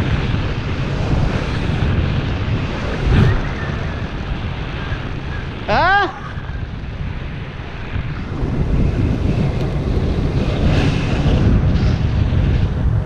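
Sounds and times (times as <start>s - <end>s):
wind roaring over microphone: 0.0s - 13.0s.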